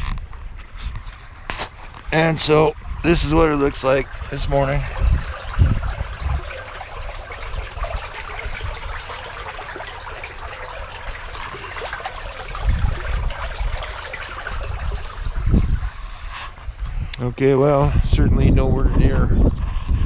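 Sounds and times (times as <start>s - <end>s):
irrigation water running: 0.0s - 17.8s
low rumbles: 1.2s - 20.0s.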